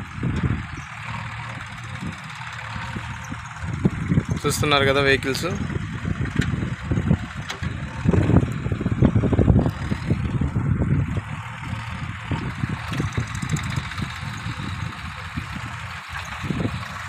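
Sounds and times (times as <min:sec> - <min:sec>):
highway traffic rumble: 0:00.0 - 0:17.0.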